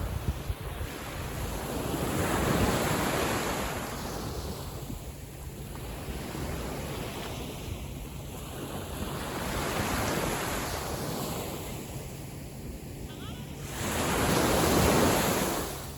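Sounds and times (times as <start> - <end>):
sea waves washing on beach: 0.0 - 15.9
wind rumbling on microphone: 0.0 - 15.9.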